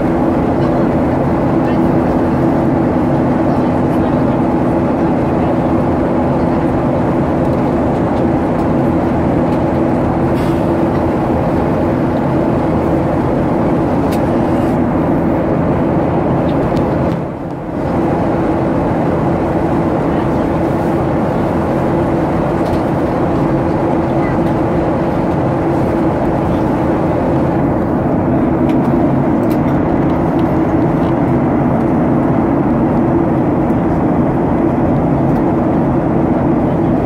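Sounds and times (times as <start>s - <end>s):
rushing airflow: 0.0s - 36.8s
jet engines droning: 0.0s - 37.0s.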